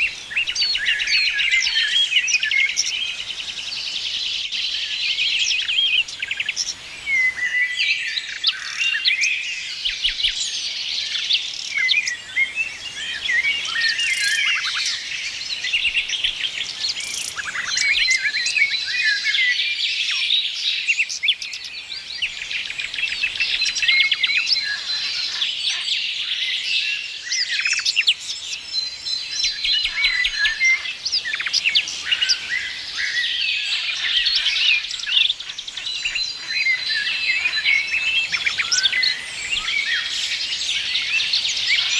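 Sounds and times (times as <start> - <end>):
songbirds singing and chirping: 0.0 - 41.9.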